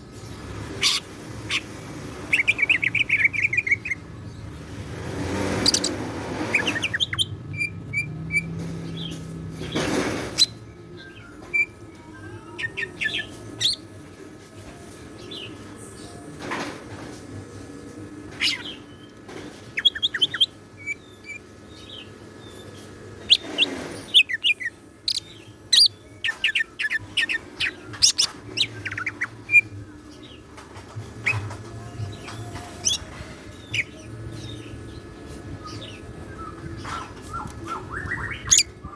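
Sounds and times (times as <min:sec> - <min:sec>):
bird chirping and trilling: 0:00.4 - 0:04.1, 0:05.3 - 0:09.2, 0:10.3 - 0:13.9, 0:18.3 - 0:38.9.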